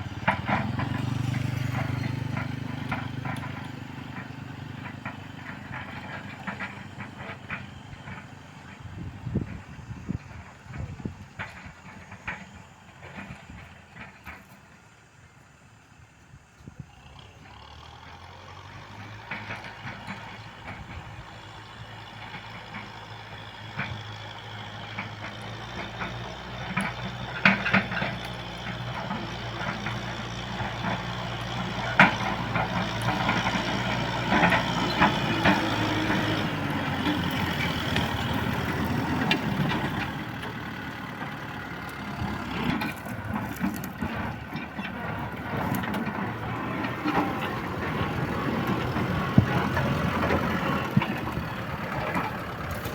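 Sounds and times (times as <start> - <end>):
sharp clanks and rattles: 0.0 - 15.0, 18.6 - 52.9
tractor diesel engine running: 0.0 - 52.9.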